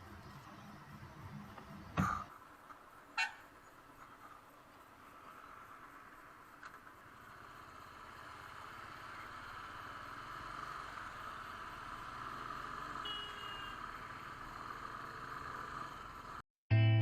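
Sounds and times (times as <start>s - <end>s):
motorcycle engine hum: 0.0s - 16.4s
wind and road rush: 0.0s - 16.4s.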